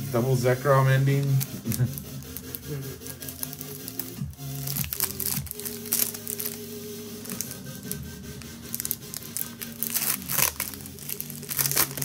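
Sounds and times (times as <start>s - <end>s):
background music: 0.0s - 12.0s
foil wrapper crinkling and tearing: 1.1s - 12.0s.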